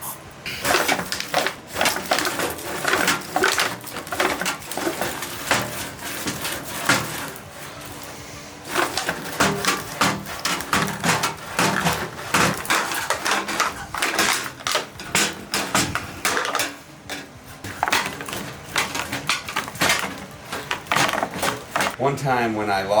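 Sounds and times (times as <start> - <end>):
steel balls rattling in tuba: 0.0 - 22.0.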